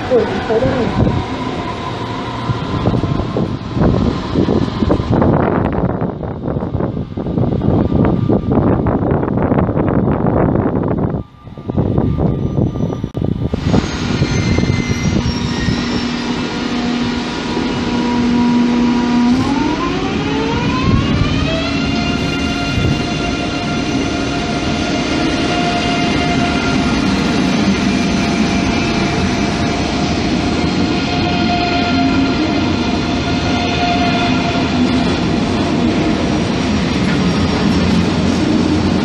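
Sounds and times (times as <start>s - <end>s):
electric train traction whine: 0.0s - 39.0s
train rolling noise: 0.0s - 39.0s.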